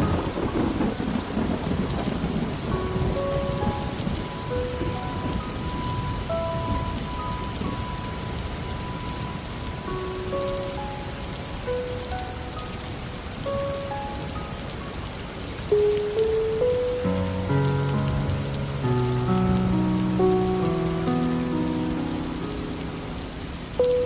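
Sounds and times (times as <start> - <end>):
steady rain falling: 0.0 - 24.0
soft slow music notes: 2.7 - 24.0.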